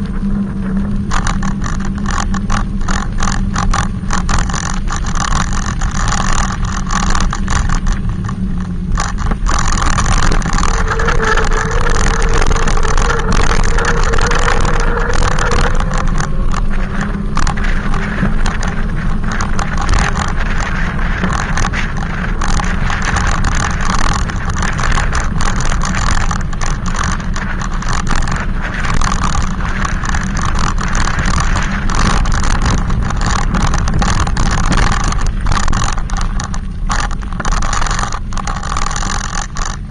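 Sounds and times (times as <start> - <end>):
humming tone: 0.0 - 38.4
bike riding rumble with rattles: 0.0 - 39.9
electric bike motor: 0.0 - 39.9.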